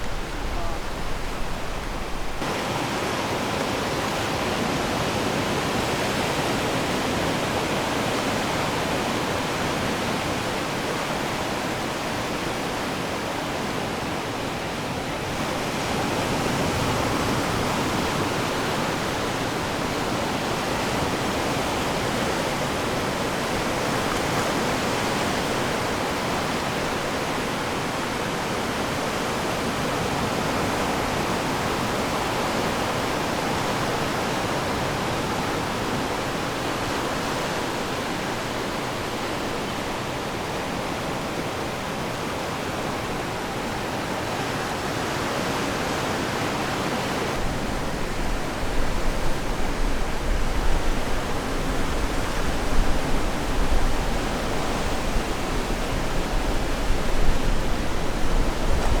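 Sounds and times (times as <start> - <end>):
ocean surf rushing: 0.0 - 59.0.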